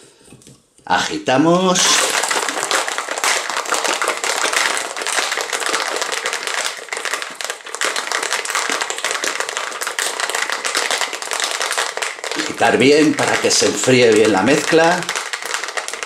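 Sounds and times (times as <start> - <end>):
ice rattling in cocktail shaker: 1.8 - 16.0.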